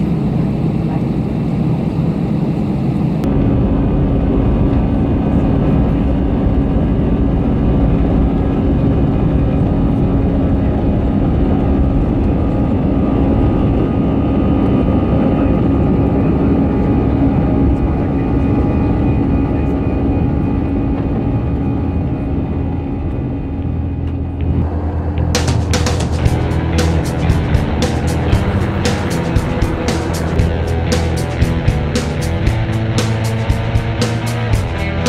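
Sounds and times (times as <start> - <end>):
jet engines rumbling with whine: 0.0 - 35.0.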